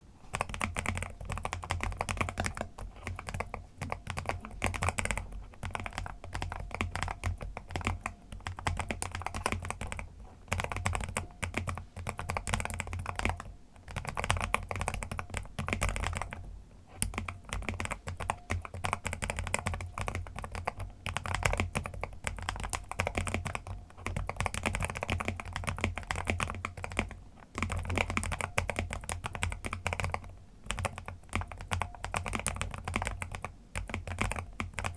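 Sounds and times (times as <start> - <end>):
mechanical keyboard typing: 0.3 - 16.4, 17.0 - 34.9.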